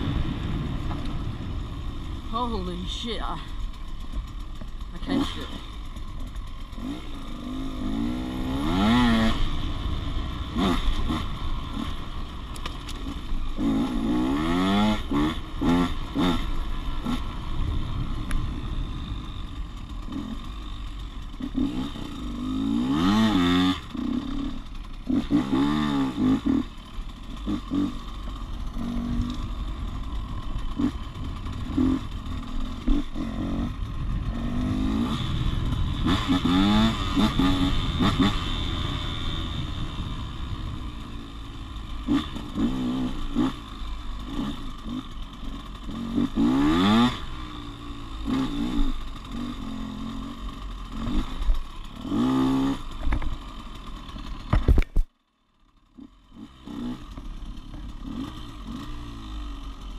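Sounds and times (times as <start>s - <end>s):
dirt bike engine revving: 0.0s - 55.0s, 55.6s - 59.9s
clatter: 3.4s - 8.2s, 10.6s - 14.2s, 14.8s - 59.9s.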